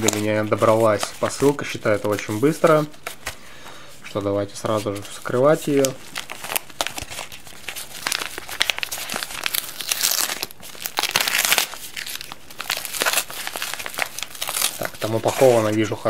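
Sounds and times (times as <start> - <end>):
plastic crinkling: 0.0 - 16.0.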